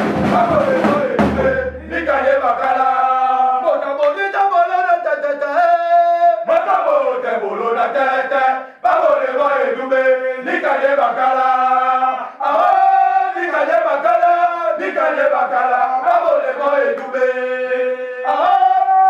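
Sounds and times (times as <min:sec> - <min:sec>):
group chanting a song: 0:00.0 - 0:19.0.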